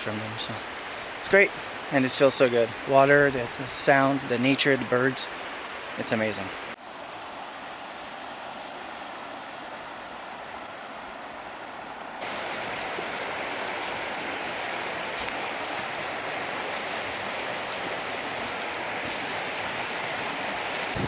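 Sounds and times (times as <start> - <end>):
stream rushing over waterfalls: 0.0 - 21.0.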